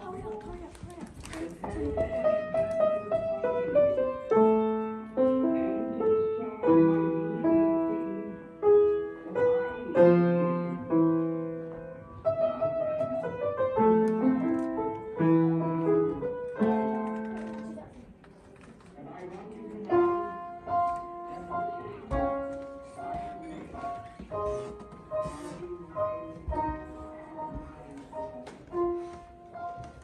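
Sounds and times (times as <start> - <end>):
solo piano melody: 2.0 - 17.8, 19.9 - 30.0.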